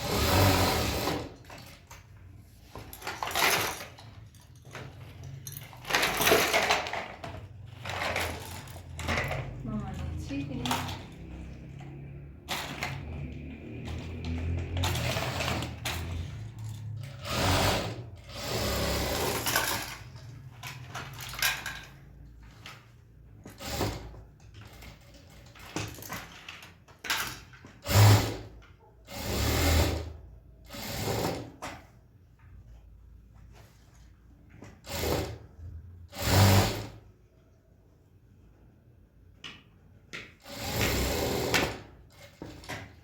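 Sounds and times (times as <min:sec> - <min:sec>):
sewing machine stitching: 0:00.0 - 0:02.2, 0:02.8 - 0:31.9, 0:34.6 - 0:37.1, 0:40.3 - 0:43.0.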